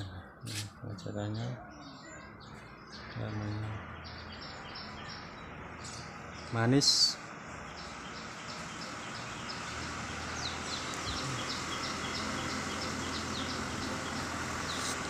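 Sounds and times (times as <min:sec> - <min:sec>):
bird chirping: 0:00.0 - 0:15.0
outdoor background hiss: 0:02.8 - 0:15.0.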